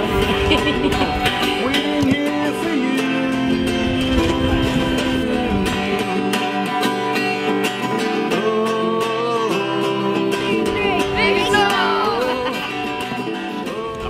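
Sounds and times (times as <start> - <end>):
person singing: 0.0 - 7.0, 7.8 - 14.0
acoustic guitar: 0.0 - 14.0.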